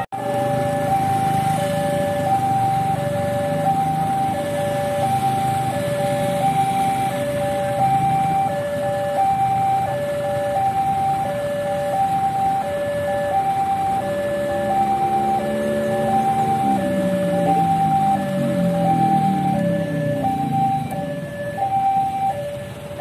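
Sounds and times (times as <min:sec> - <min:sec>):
level crossing two-tone alarm: 0:00.0 - 0:23.0.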